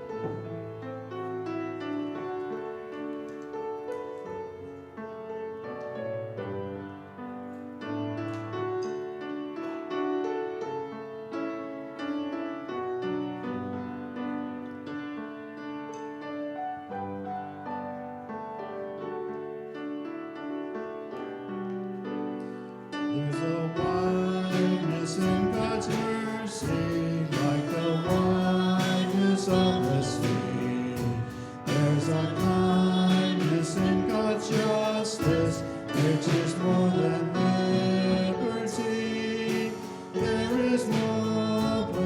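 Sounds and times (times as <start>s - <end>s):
piano playing slow hymn chords: 0.0s - 42.0s.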